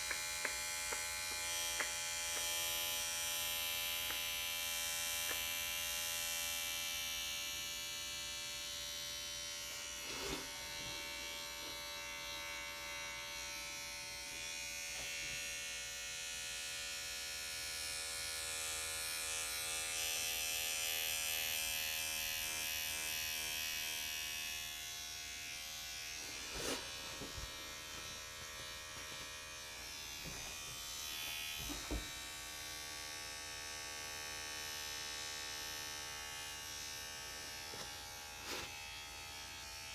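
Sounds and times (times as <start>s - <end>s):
tattoo machine buzzing: 0.0s - 39.9s.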